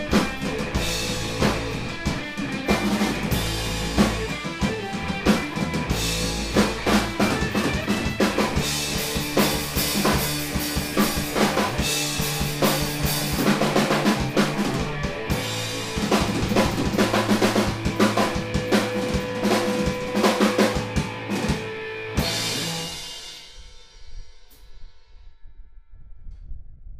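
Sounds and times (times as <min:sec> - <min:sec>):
electric bass: 0:00.0 - 0:23.4
distorted electric guitar: 0:00.0 - 0:23.5
drum kit with cymbal hits: 0:00.0 - 0:24.8.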